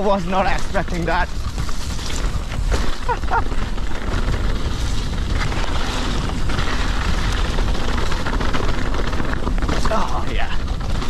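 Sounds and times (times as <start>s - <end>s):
bike tyres rolling on dirt: 0.0s - 11.0s.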